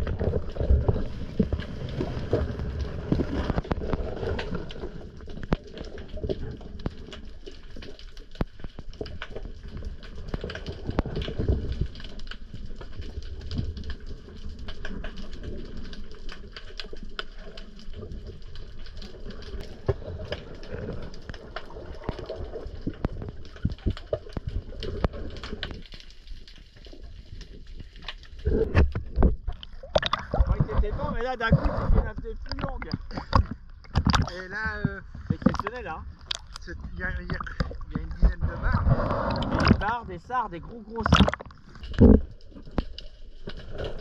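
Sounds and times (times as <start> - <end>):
low rumble of moving water: 0.0 - 44.0
underwater crackle of clicks: 0.0 - 44.0.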